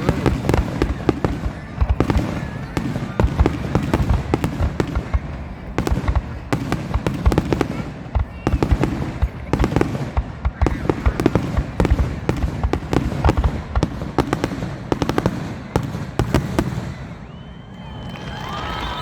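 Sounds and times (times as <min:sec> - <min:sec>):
fireworks booming bursts: 0:00.0 - 0:17.9
fireworks crackling: 0:00.0 - 0:19.0.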